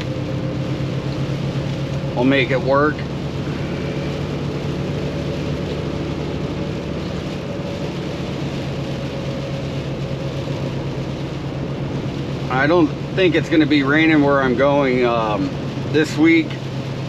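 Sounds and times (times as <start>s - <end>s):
road and cab noise: 0.0s - 17.0s
truck diesel engine drone: 0.0s - 17.0s.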